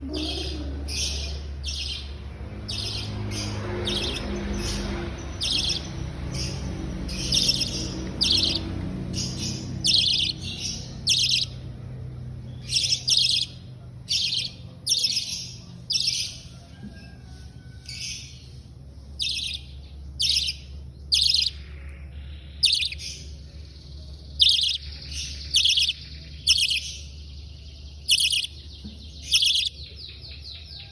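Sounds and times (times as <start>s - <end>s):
bird chirping: 0.0s - 16.8s, 17.8s - 30.9s
steady low hum: 0.0s - 30.9s.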